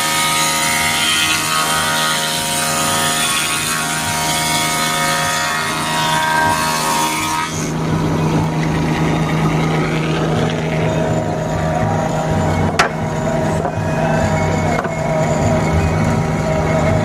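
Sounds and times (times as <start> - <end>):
cutter whining in wood: 0.0 - 17.0
spindle moulder motor hum: 0.0 - 17.0.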